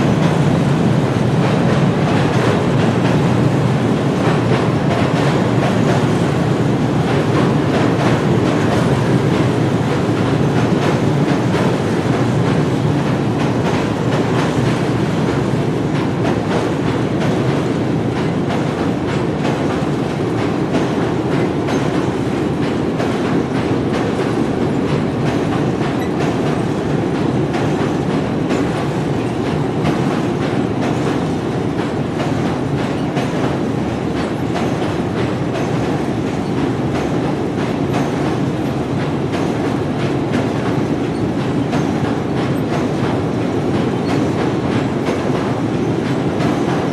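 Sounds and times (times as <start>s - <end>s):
train rumbling along track: 0.0s - 46.9s
wheels clicking over rails: 0.0s - 46.9s.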